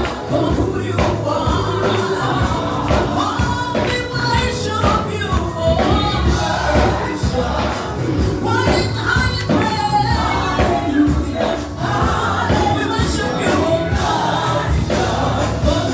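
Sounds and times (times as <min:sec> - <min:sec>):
gospel singing with backing vocals: 0:00.0 - 0:15.9
live band with bass and drums: 0:00.0 - 0:15.9.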